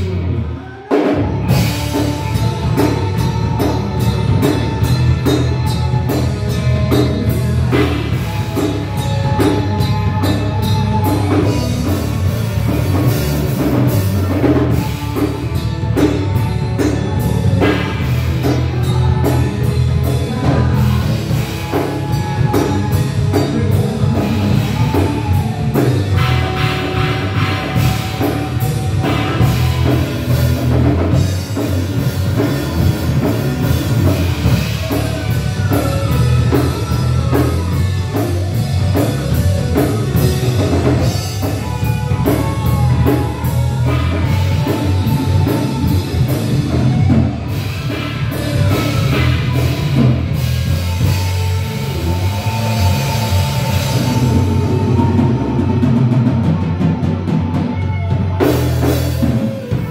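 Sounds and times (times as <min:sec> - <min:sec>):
drum kit steady beat: 0:00.0 - 0:59.9
electric guitar: 0:00.0 - 0:59.9
keyboard: 0:00.0 - 0:59.9.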